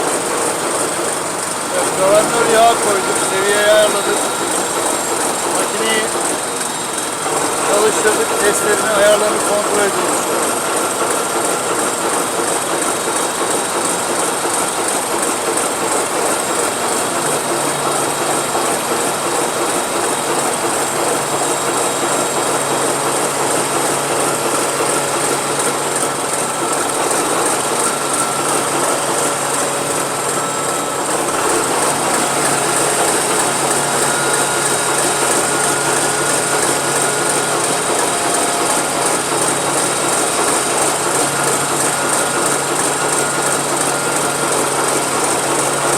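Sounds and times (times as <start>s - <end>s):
ship diesel engine clattering: 0.0s - 45.9s.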